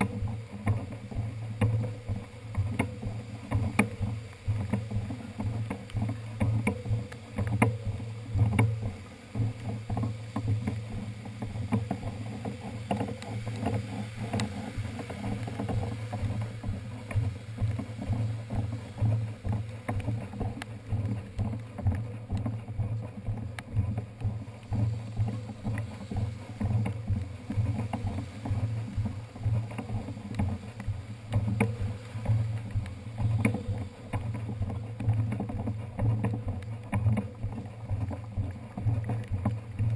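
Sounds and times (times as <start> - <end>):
bicycle wheeled over wet pavement: 0.0 - 39.9.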